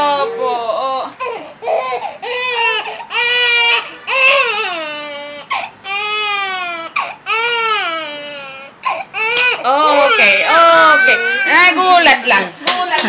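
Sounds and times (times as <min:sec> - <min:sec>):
baby crying: 0:00.0 - 0:12.5.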